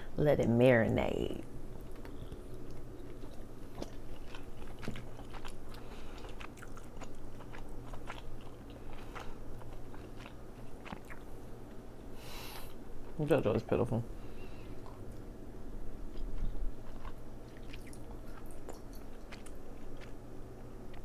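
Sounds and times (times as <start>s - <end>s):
person chewing crab: 1.8s - 13.2s, 14.6s - 21.0s.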